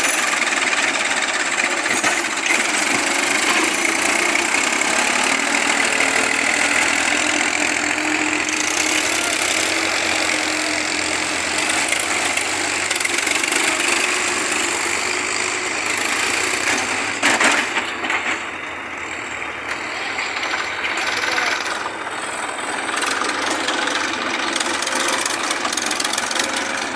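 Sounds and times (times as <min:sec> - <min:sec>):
heavy machinery engine running: 0:00.0 - 0:26.9.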